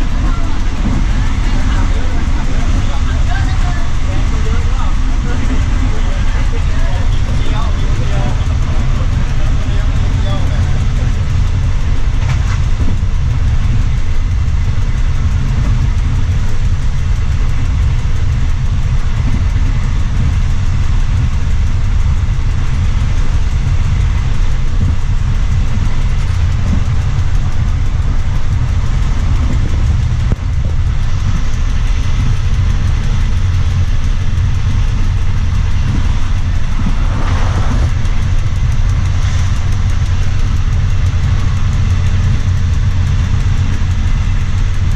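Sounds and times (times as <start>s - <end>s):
rattling noise: 0.0s - 44.9s
train rumbling on board: 0.0s - 44.9s.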